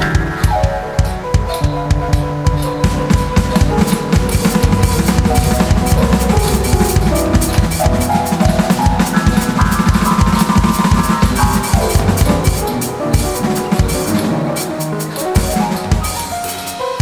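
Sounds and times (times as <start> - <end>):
electronic drum kit playing: 0.0 - 17.0
keyboard and synth notes: 0.0 - 17.0.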